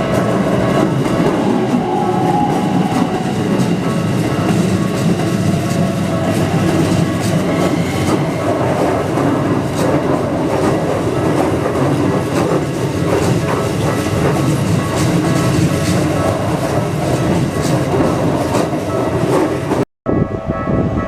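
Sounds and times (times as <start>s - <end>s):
electric train wheels clattering: 0.0s - 19.8s.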